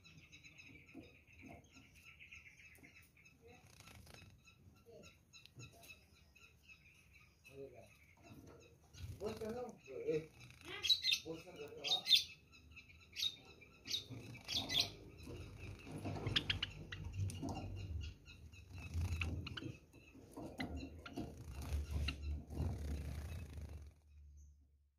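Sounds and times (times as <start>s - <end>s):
sparrows chirping: 0.0s - 24.9s.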